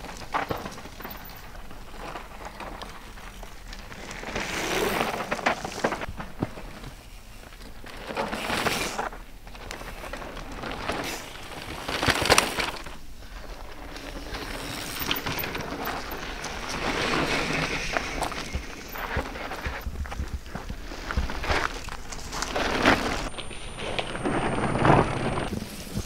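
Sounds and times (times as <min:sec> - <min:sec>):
bike tyres rushing over dirt: 0:00.0 - 0:26.0
bikes clattering: 0:00.0 - 0:26.0.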